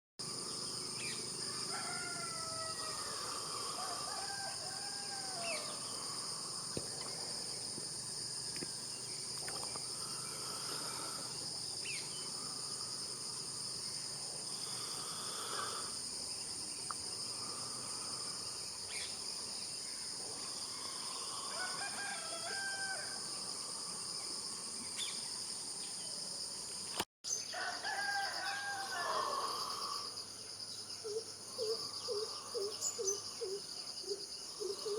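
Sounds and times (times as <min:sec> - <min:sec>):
shrill insect chorus: 0:00.2 - 0:34.9.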